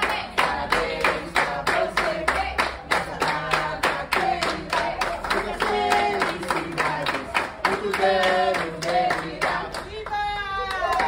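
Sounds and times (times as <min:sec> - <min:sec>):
group singing a celebration song: 0:00.0 - 0:11.0
people clapping in time: 0:00.0 - 0:11.0.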